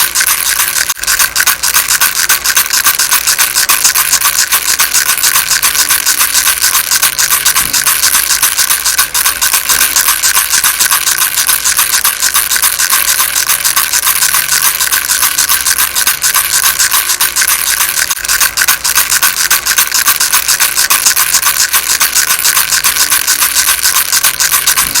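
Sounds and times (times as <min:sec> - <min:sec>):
baby rattle shaken: 0:00.0 - 0:25.0.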